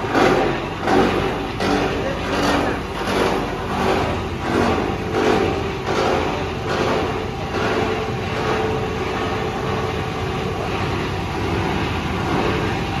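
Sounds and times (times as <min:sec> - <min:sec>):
machine hum: 0:00.0 - 0:13.0
wire granulator grinding: 0:00.0 - 0:13.0.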